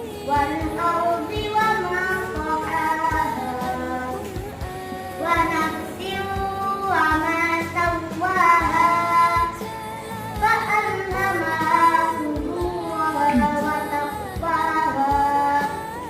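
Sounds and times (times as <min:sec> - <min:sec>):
child singing: 0:00.0 - 0:16.0.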